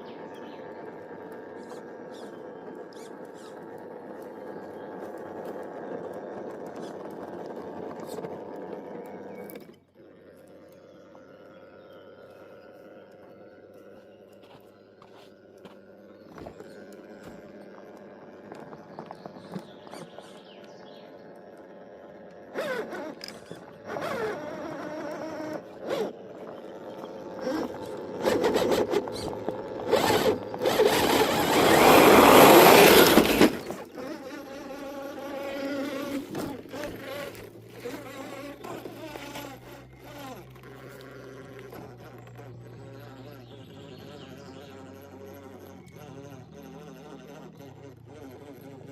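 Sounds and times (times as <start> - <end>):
toy car electric motor whining: 0.0 - 48.9.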